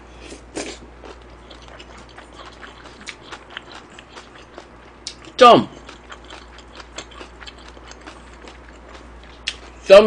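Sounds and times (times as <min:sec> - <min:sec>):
close chewing: 0:00.6 - 0:09.8.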